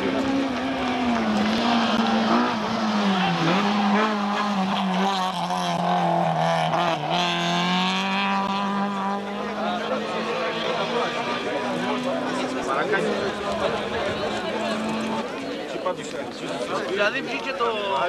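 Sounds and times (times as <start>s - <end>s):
rally car engine revving: 0.0s - 15.4s.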